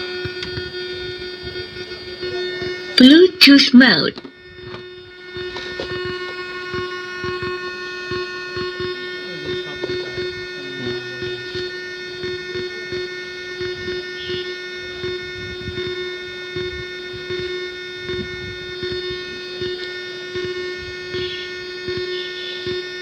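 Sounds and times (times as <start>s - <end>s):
speaker whining hum: 0.0s - 23.0s.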